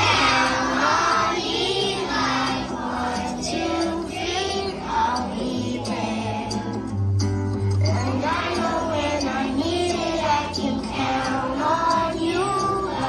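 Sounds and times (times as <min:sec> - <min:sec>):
children singing together: 0:00.0 - 0:06.9, 0:07.9 - 0:13.0
accompanying music: 0:00.0 - 0:13.0.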